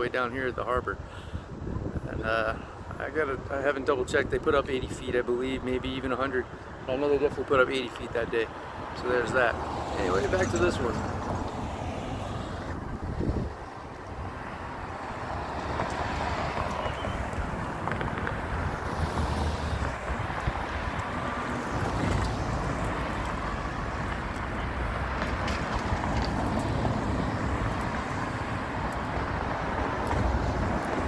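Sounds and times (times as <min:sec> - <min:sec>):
road traffic noise: 0:00.0 - 0:31.0
wind buffeting microphone: 0:00.0 - 0:31.0.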